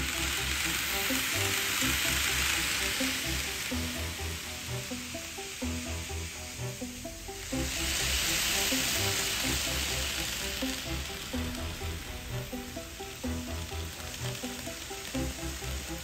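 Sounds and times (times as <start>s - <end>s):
background music: 0.0s - 16.0s
model train wheels on track: 0.0s - 16.0s.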